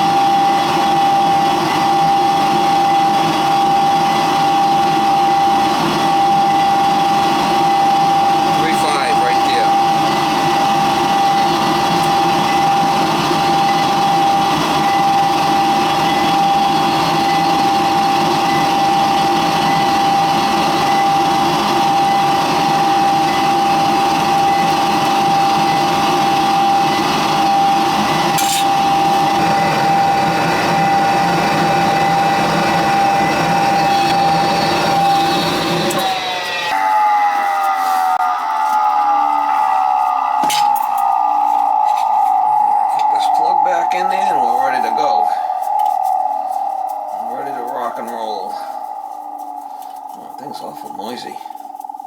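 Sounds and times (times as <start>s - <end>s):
furnace hum: 0.0s - 52.0s
furnace motor whine: 0.0s - 52.0s.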